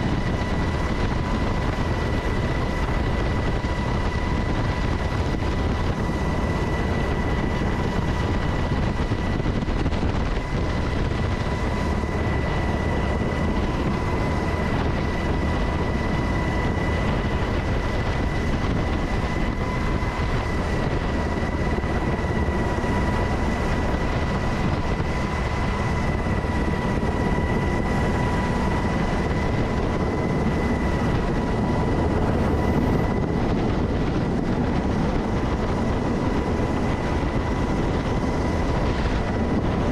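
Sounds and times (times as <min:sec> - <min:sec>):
turbine aircraft engines roaring: 0:00.0 - 0:39.9.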